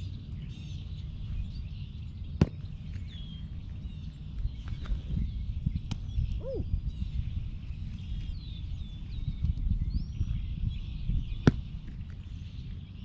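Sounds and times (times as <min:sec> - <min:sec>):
birds chirping: 0:00.0 - 0:13.0
wind rumbling on microphone: 0:00.0 - 0:13.0.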